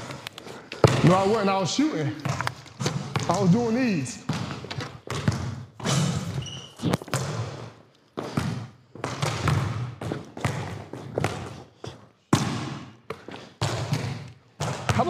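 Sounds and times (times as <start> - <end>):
basketballs bouncing on court: 0.0 - 15.0.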